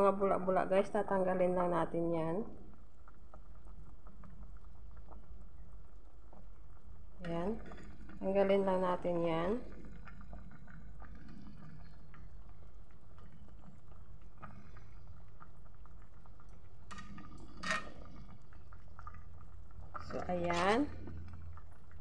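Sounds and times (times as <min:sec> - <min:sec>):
soup bubbling: 0:00.0 - 0:22.0.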